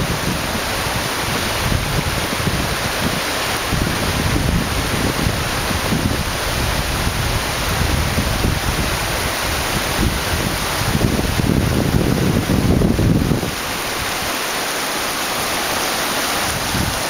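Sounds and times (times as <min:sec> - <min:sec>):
wind buffeting microphone: 0:00.0 - 0:14.6, 0:15.2 - 0:17.0
waterfall rushing: 0:00.0 - 0:17.0.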